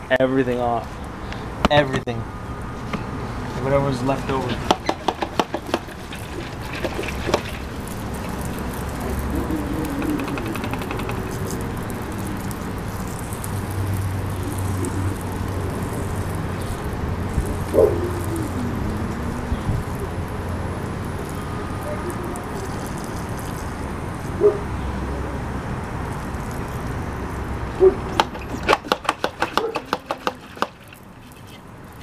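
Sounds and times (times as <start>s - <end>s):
hose spraying water on tire: 3.3s - 32.0s.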